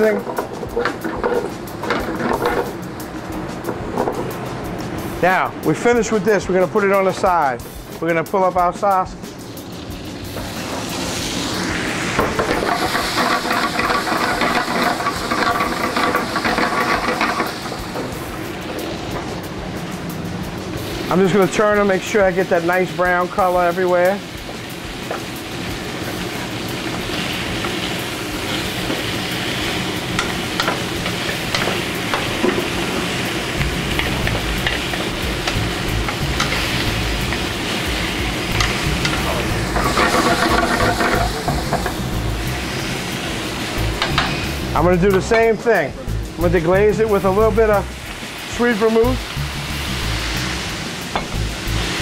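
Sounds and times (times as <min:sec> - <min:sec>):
sausages sizzling in a skillet: 0:00.0 - 0:52.0.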